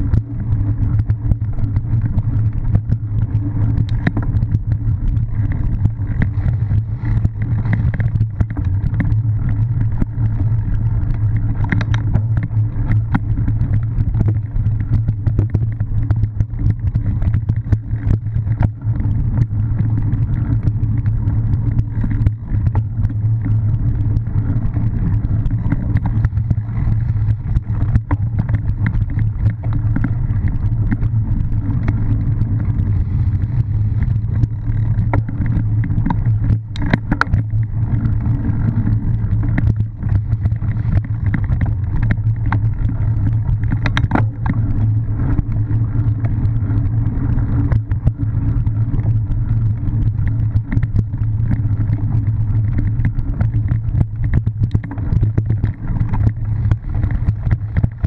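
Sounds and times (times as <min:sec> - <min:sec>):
bike knocks and rattles: 0:00.0 - 0:48.5
wind rumble: 0:00.0 - 0:58.0.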